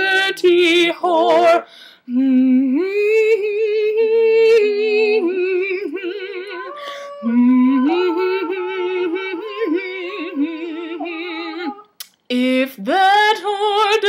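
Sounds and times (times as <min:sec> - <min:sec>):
woman singing wordless melody: 0:00.0 - 0:14.0.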